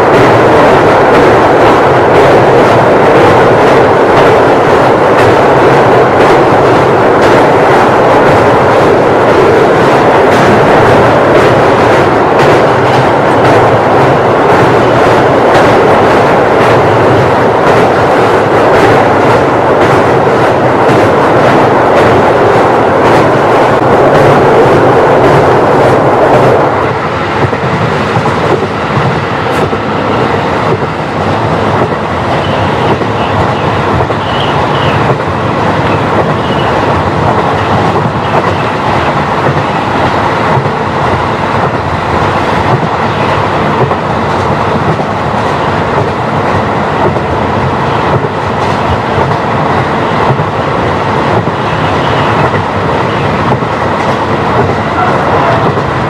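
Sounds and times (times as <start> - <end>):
diesel railcar running: 0.0 - 56.0
train rumbling over bridge: 0.0 - 56.0.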